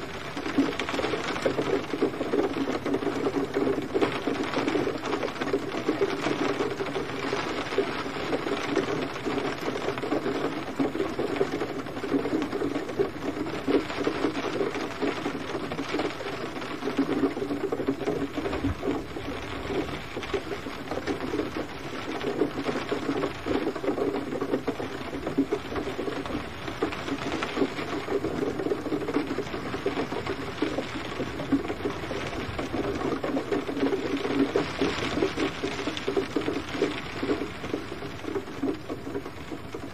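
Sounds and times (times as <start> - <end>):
steady gentle rain: 0.0 - 39.9.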